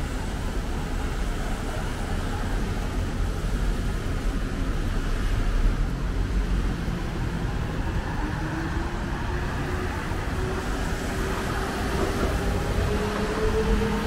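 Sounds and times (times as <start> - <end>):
low rumble of passing vehicles: 0.0 - 14.0.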